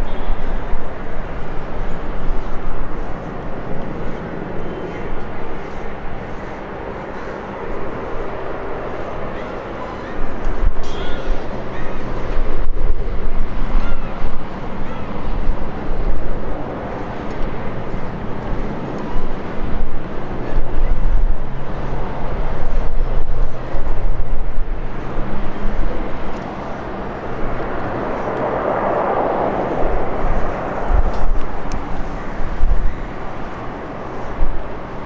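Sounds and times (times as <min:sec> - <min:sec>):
jet airliner engines: 0:00.0 - 0:35.0.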